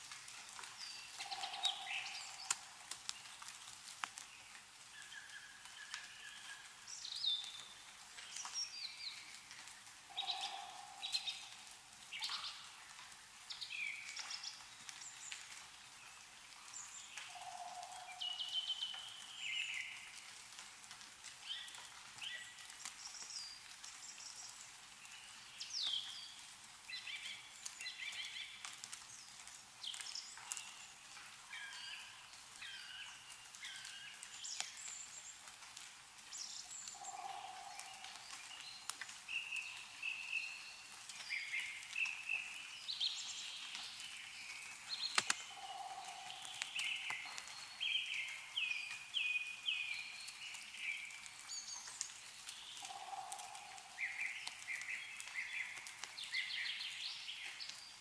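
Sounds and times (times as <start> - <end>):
faint steady hiss: 0.0 - 58.0
meltwater dripping: 0.0 - 58.0
songbirds chirping: 0.0 - 58.0.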